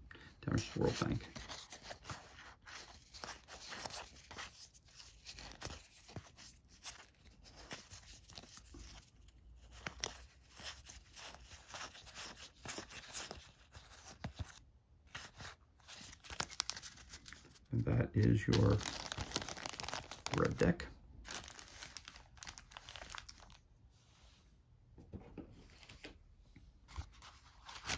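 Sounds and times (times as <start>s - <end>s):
cards being leafed through: 0.5s - 23.6s, 26.9s - 27.9s.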